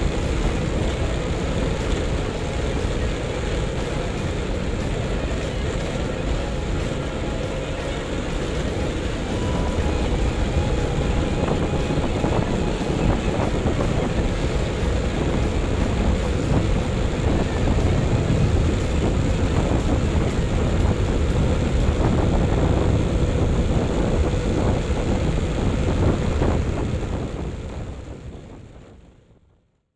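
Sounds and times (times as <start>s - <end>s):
wind buffeting the microphone: 0.0s - 29.4s
motorcycle engine rumble: 0.0s - 29.5s.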